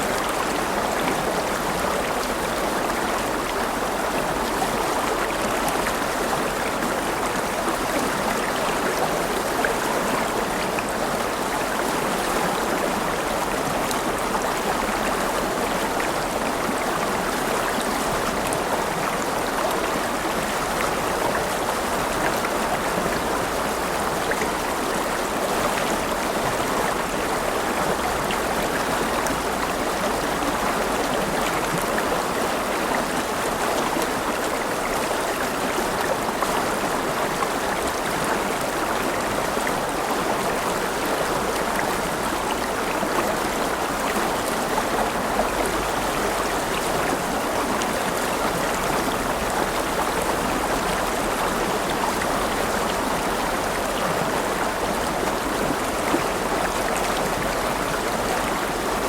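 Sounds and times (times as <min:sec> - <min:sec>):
river water over stones: 0:00.0 - 0:59.0.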